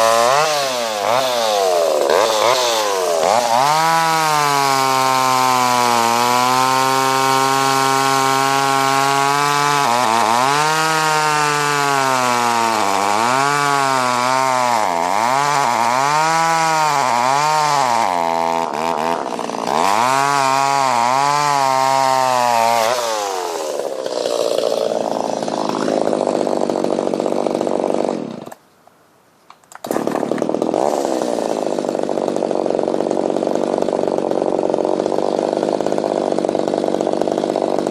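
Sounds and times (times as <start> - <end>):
chainsaw cutting wood: 0.0 - 28.6, 29.6 - 37.9
chainsaw revving: 0.0 - 28.6, 29.7 - 37.9.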